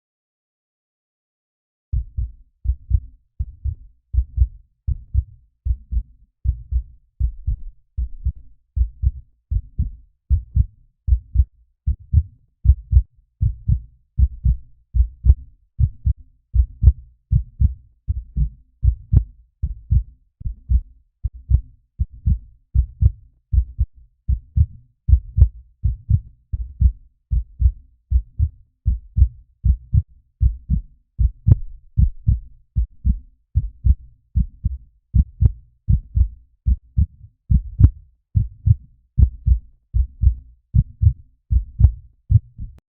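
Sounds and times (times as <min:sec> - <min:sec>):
heartbeat thumps: 0:02.0 - 0:42.8.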